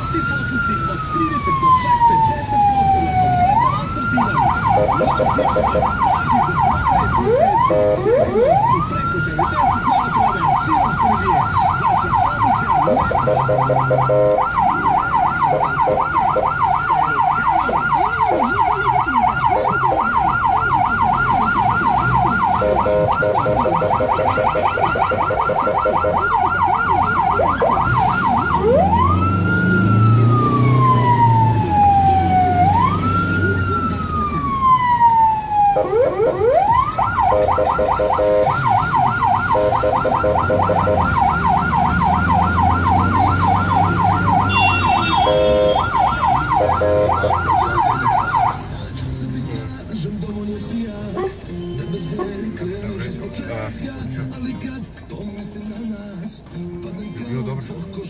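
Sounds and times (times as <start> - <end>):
ambulance siren: 0.0 - 50.0, 50.7 - 53.6.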